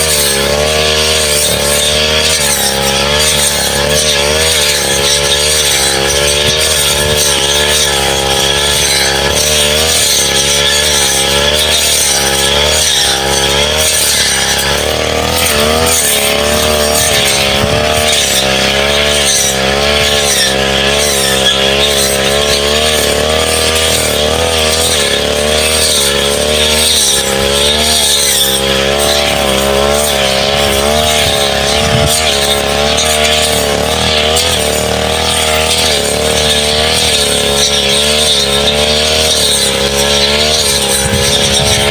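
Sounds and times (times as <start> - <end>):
brush cutter engine cutting scrub: 0.0 - 41.9.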